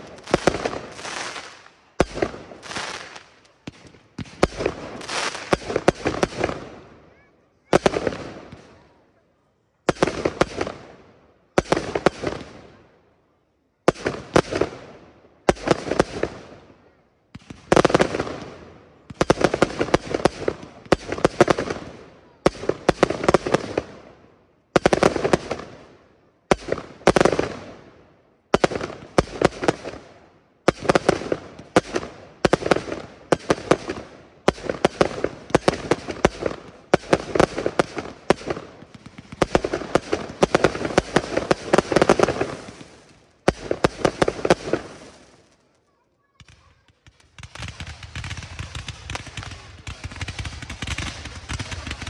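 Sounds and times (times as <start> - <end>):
fireworks bangs and crackle: 0.0 - 13.0, 13.7 - 52.0.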